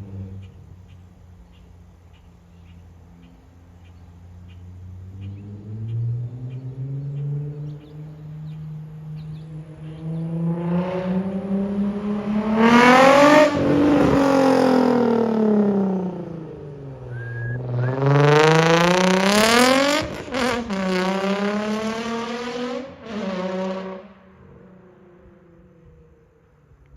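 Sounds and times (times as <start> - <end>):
car engine revving: 2.5 - 26.2.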